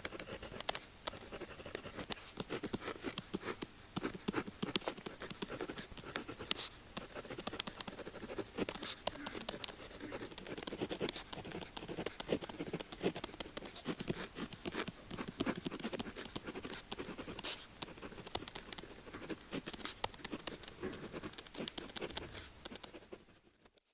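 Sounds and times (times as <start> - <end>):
pen tapping and clicking: 0.0 - 23.1
pen scratching on paper: 0.0 - 23.9.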